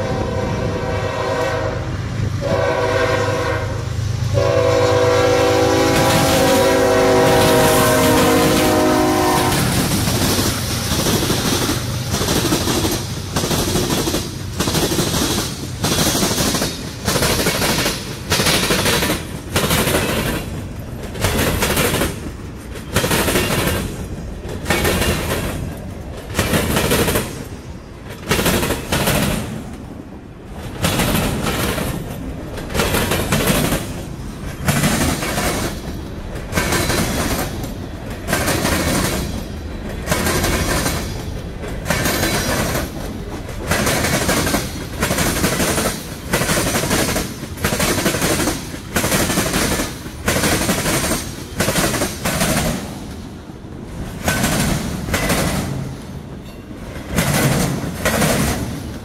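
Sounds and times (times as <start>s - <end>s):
train rumble: 0.0s - 59.0s
train wheels clattering over rail joints: 5.5s - 59.0s.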